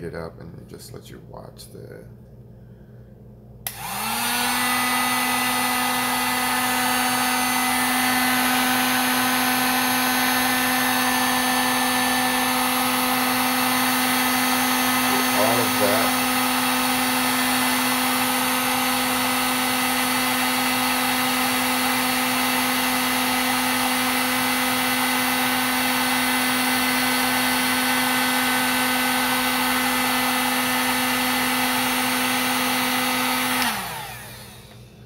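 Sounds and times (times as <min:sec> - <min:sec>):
heat gun running: 0:03.6 - 0:35.0.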